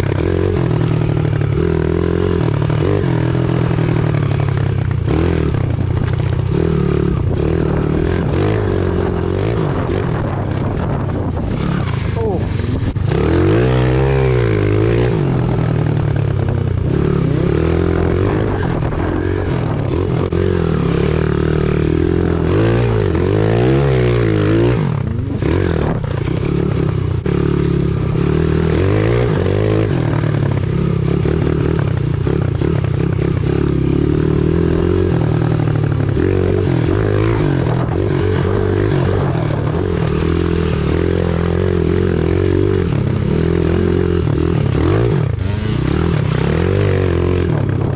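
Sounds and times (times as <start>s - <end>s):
pit bike engine revving: 0.0s - 47.9s.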